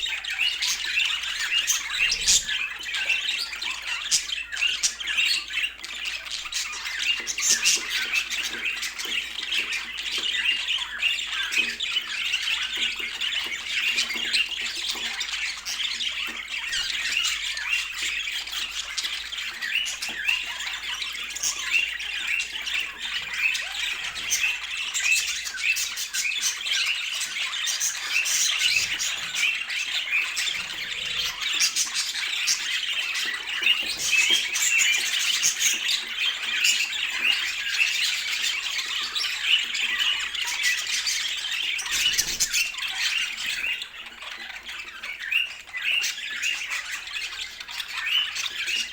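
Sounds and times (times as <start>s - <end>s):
budgerigars chattering: 0.0s - 48.9s.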